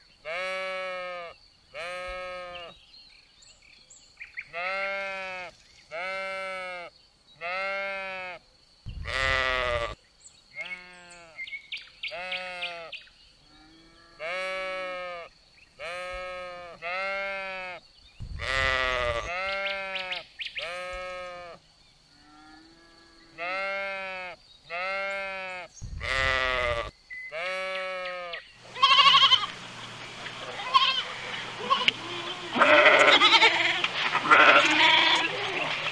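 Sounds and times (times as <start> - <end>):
farm animal bleating: 0.2 - 2.8, 4.5 - 8.4, 9.0 - 10.0, 10.6 - 11.5, 12.1 - 12.9, 13.5 - 17.8, 18.4 - 21.6, 22.2 - 35.9.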